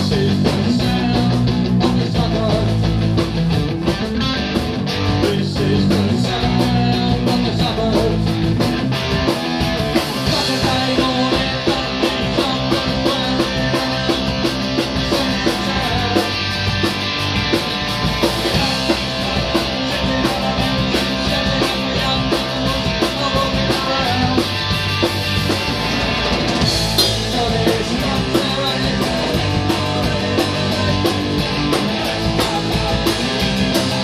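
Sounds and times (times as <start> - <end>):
driving drum beat: 0.0 - 34.0
punk rock band playing: 0.0 - 34.0.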